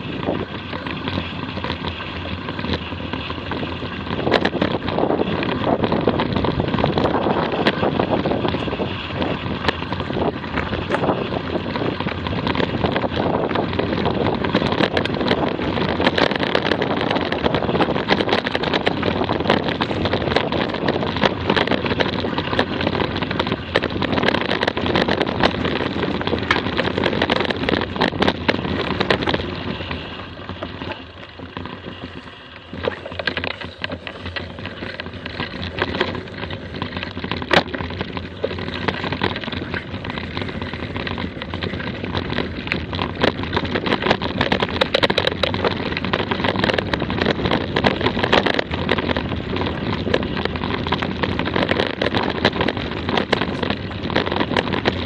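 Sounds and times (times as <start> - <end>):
bike clattering over bumps: 0.0 - 55.0
wind noise on microphone: 0.0 - 55.0.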